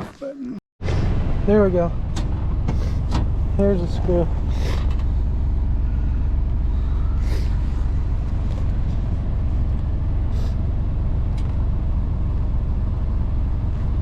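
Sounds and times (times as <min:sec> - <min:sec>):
truck diesel engine idling: 0:01.0 - 0:14.0.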